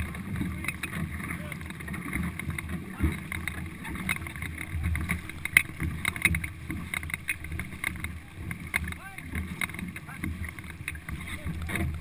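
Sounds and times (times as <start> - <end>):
paddle strokes splashing: 0.0 - 12.0
sharp knocks and clicks: 0.0 - 12.0
water rushing along a hull: 0.0 - 12.0.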